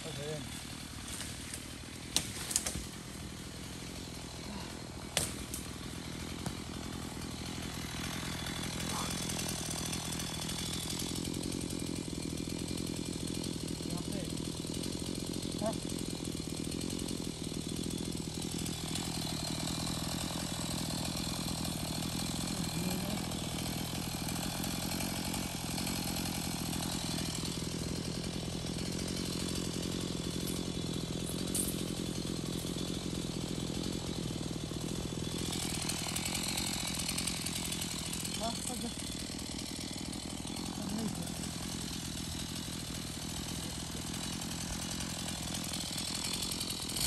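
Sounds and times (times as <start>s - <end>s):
chainsaw running: 0.0s - 47.0s.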